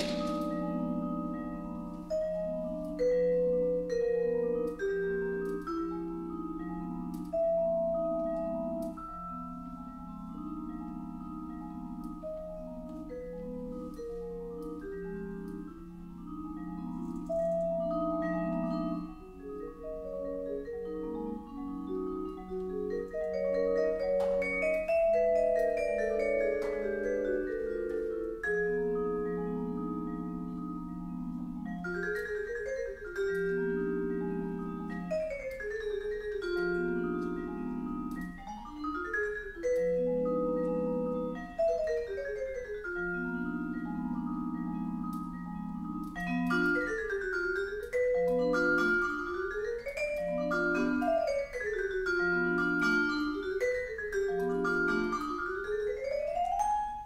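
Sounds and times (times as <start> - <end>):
marimba played with mallets: 0.0 - 57.0.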